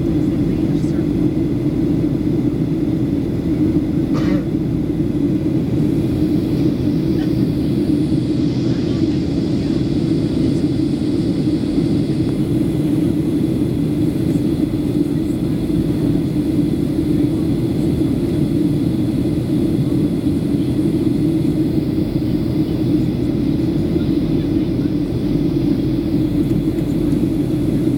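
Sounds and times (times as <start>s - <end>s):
airplane cabin low rumble: 0.0s - 27.9s
faint high whine: 0.0s - 27.9s.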